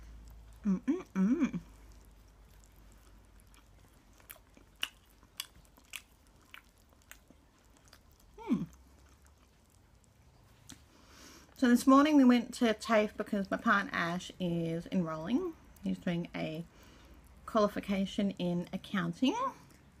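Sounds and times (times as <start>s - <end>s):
soft chewing crunches: 0.0s - 20.0s.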